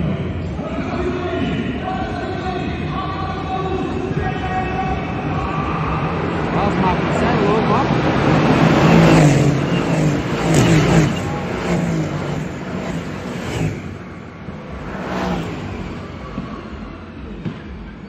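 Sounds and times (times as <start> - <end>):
sports cars passing by: 0.0 - 18.0.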